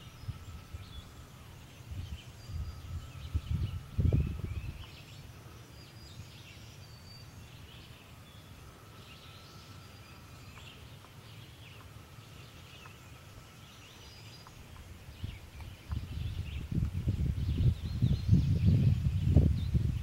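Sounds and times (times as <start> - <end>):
low rumble on microphone: 0.0 - 11.0, 11.9 - 20.0
birds chirping and whistling: 0.0 - 20.0
low outdoor rumble: 0.0 - 20.0.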